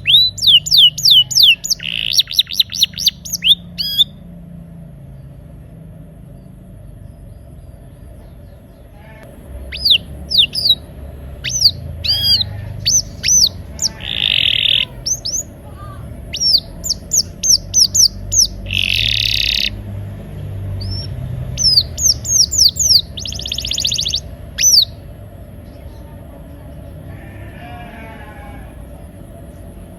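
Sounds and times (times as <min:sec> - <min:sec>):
canary singing: 0:00.0 - 0:04.4, 0:08.8 - 0:29.9
low hum: 0:00.0 - 0:27.2.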